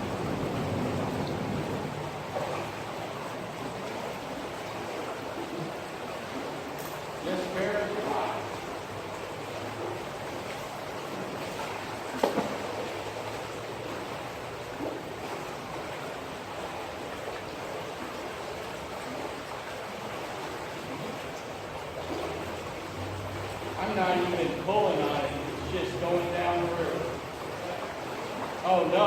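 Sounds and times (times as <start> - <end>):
stream flowing: 0.0 - 29.0.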